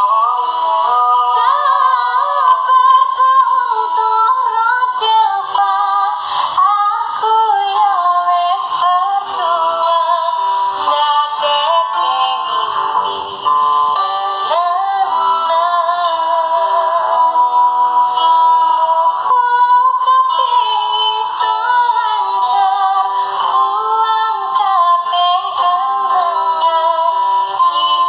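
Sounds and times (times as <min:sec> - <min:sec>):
acoustic guitar: 0:00.0 - 0:28.0
woman singing: 0:00.0 - 0:28.0.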